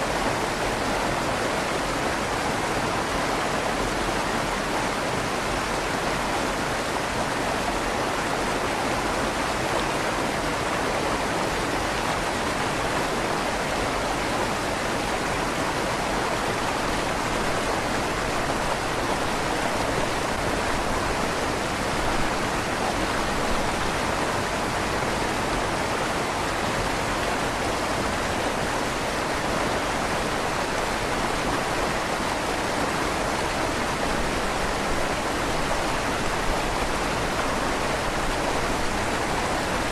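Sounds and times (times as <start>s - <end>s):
river water rushing under bridge: 0.0s - 39.9s.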